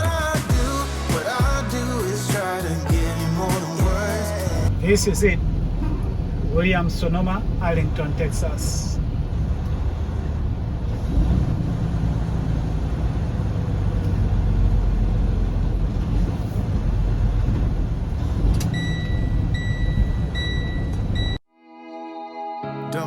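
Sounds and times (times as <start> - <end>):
diesel truck engine rumbling: 0.0 - 21.3.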